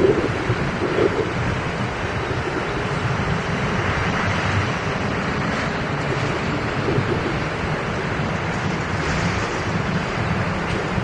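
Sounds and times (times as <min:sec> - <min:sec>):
train wheels rumbling on rail: 0:00.0 - 0:11.0
wind on microphone: 0:00.0 - 0:11.0.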